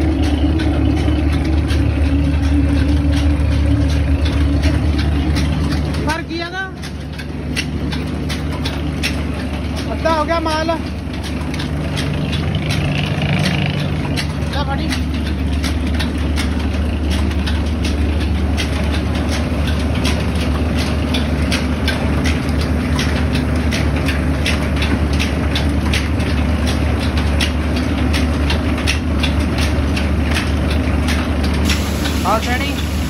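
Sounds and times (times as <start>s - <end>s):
mill machinery humming: 0.0s - 33.0s
sharp machine clicks: 0.0s - 33.0s.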